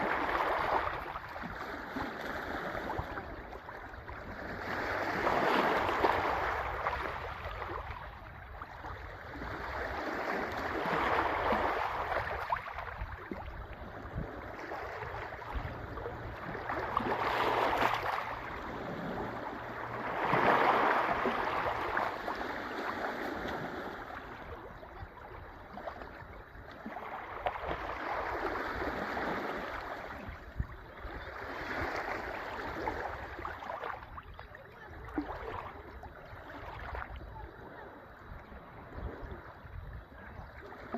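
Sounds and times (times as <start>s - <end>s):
sea waves washing ashore: 0.0s - 40.9s.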